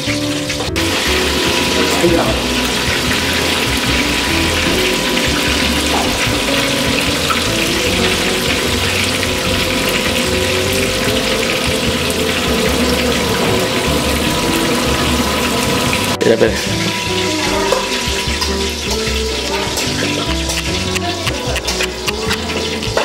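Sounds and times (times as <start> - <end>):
hot oil bubbling and crackling: 0.0 - 23.0.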